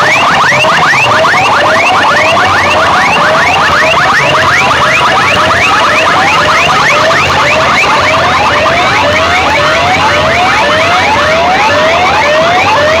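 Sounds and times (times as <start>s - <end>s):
electronic siren whoops: 0.0s - 13.0s.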